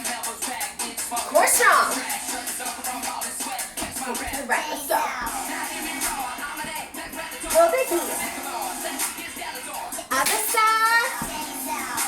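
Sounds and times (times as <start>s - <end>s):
upbeat hip-hop music: 0.0s - 12.0s.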